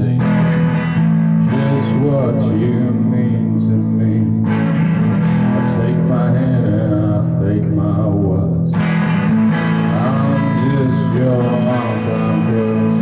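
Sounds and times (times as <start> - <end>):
man singing: 0.0 - 0.5, 1.4 - 8.9, 9.6 - 13.0
guitar strumming: 0.0 - 13.0.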